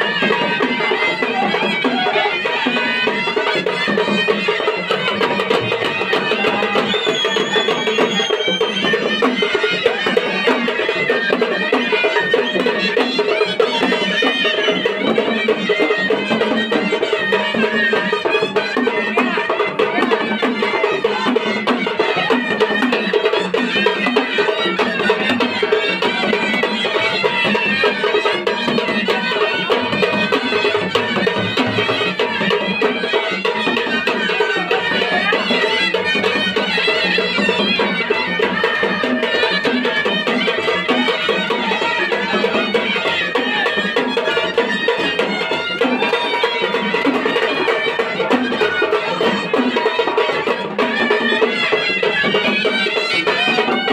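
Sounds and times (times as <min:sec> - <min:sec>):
procession band playing: 0:00.0 - 0:53.9
reedy wind instrument melody: 0:00.0 - 0:53.9.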